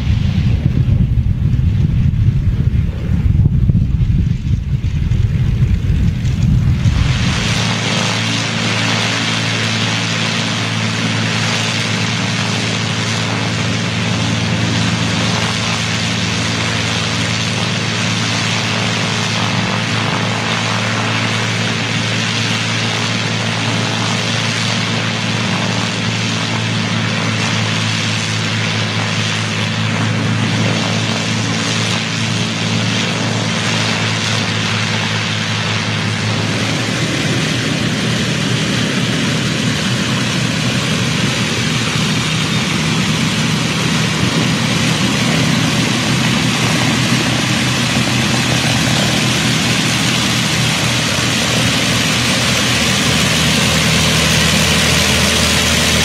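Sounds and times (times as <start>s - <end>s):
propeller aircraft engines droning: 0.0s - 56.0s.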